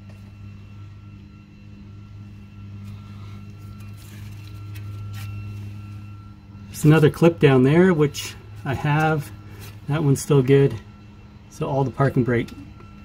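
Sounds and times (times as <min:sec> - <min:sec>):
faint higher tones: 0:00.0 - 0:13.0
low hum: 0:00.0 - 0:13.0.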